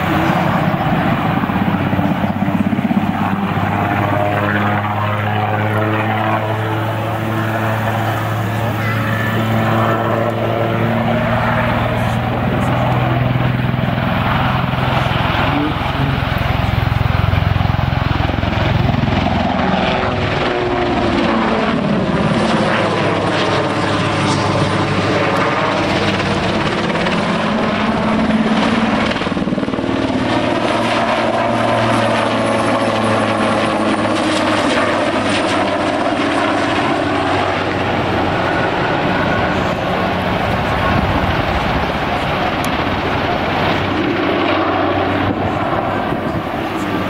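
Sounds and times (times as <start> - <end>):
helicopter flying overhead: 0.0 - 47.0.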